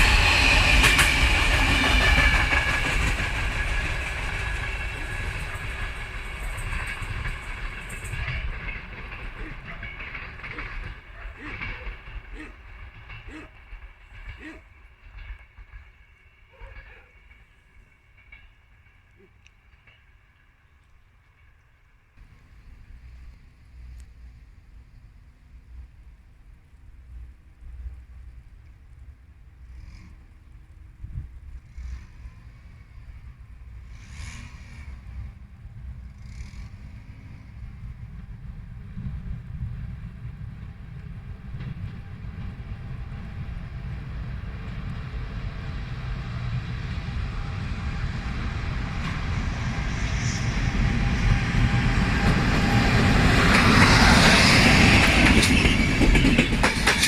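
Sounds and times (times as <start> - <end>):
wheels clattering on track: 0.0 - 24.3, 26.6 - 57.0
train rumbling on rails: 0.0 - 57.0.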